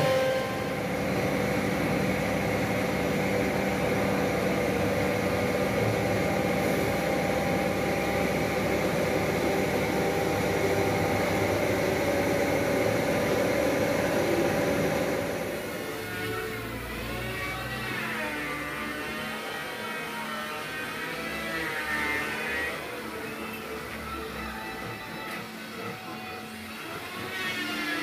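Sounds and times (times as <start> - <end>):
router spindle carving wood: 1.9 - 28.0.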